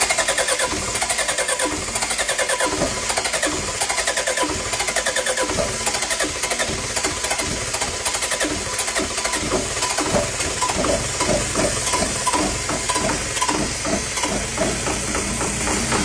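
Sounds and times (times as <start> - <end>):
diesel generator running: 0.0 - 16.0.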